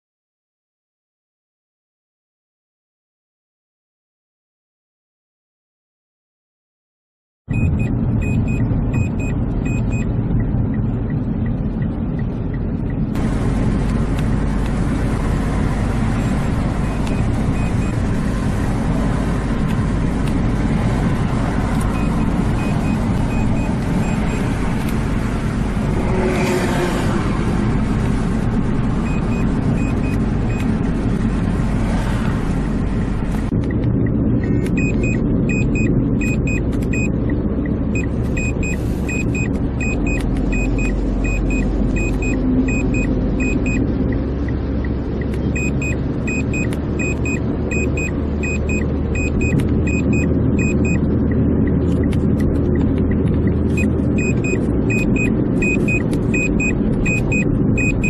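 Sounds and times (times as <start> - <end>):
road and engine noise in car: 7.5 - 58.0.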